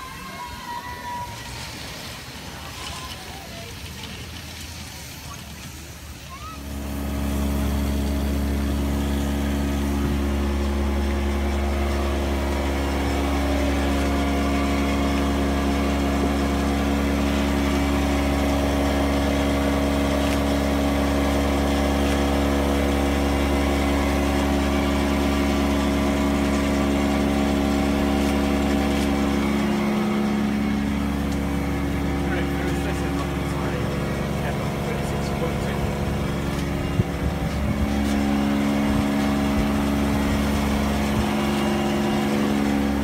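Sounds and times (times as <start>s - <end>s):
steady machinery drone: 5.6s - 43.0s.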